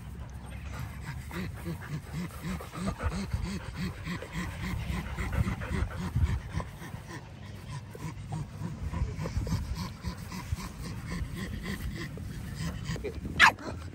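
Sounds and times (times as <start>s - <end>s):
dog panting: 0.0s - 13.4s.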